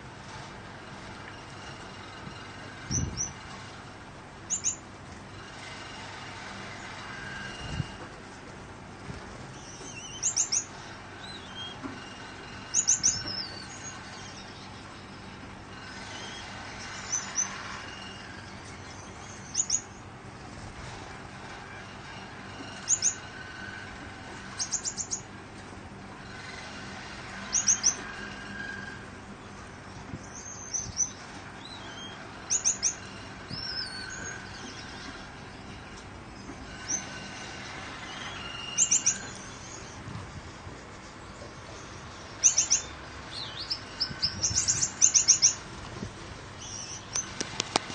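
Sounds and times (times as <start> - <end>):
fan noise: 0.0 - 47.9
finches chirping: 1.4 - 3.7, 4.5 - 8.0, 9.4 - 20.1, 20.8 - 25.3, 26.2 - 40.4, 41.3 - 45.6, 46.6 - 47.9.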